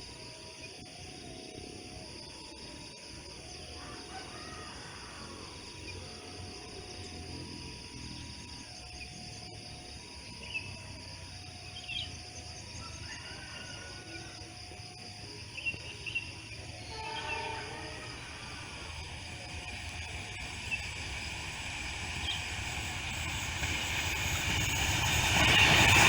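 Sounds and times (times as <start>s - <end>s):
insects buzzing: 0.0s - 26.0s.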